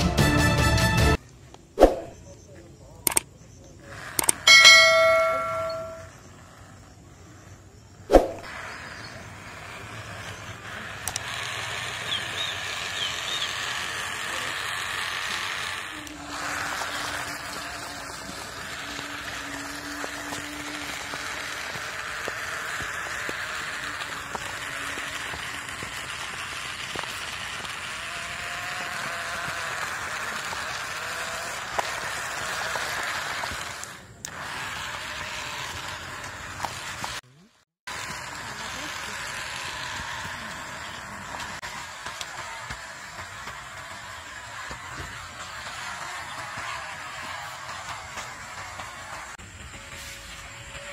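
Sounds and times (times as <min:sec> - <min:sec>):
small motor whirring: 0:03.1 - 0:50.9.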